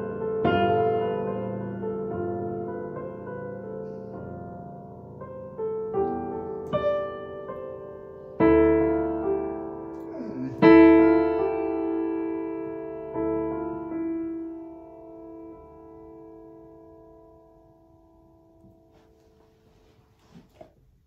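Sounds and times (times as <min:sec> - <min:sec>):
electronic keyboard piano chords: 0:00.0 - 0:19.2.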